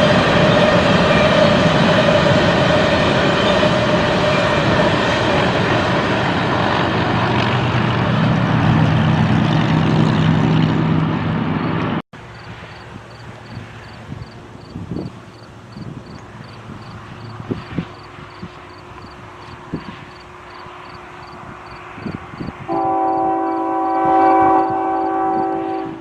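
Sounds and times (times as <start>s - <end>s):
freight train rumble and rattle: 0.0s - 26.0s
locomotive engine drone: 0.0s - 26.0s.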